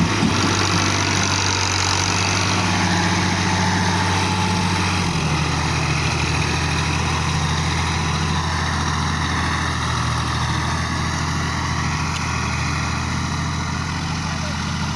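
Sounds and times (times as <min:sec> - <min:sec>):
tractor diesel engine idling: 0:00.0 - 0:14.9.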